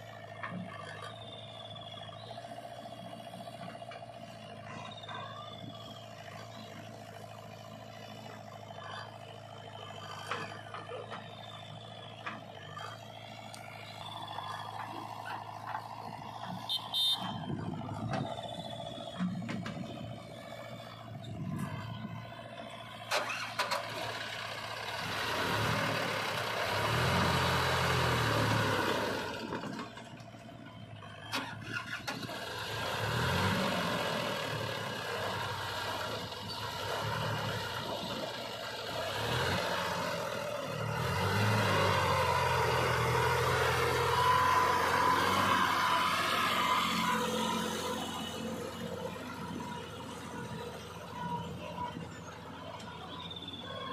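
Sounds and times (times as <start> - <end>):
diesel engines running: 0.0 - 53.9
tractor engine revving: 0.0 - 53.9.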